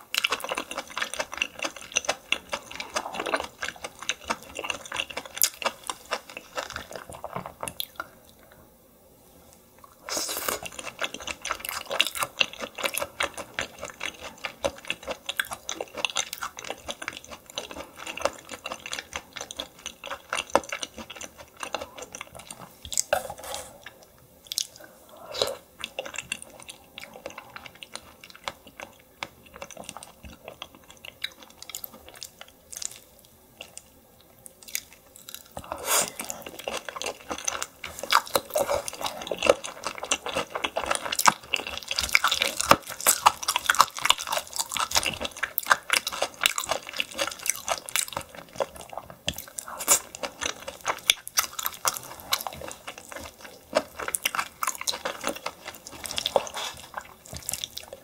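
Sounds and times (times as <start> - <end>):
person chewing food: 0.0 - 8.6, 9.9 - 58.0.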